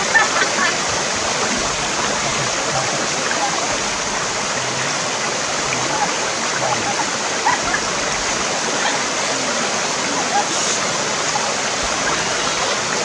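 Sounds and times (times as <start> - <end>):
stream rushing over cascades: 0.0 - 13.0.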